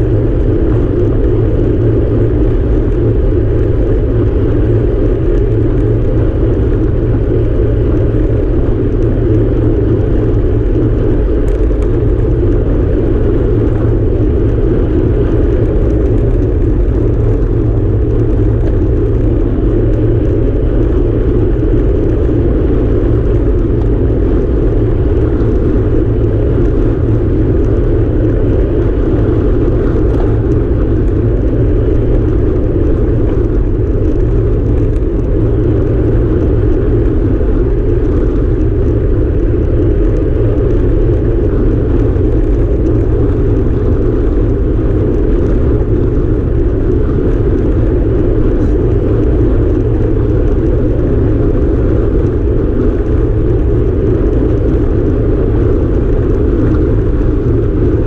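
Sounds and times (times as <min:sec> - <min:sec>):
tyres rumbling on asphalt: 0:00.0 - 0:58.0
wind rushing over microphone: 0:00.0 - 0:58.0.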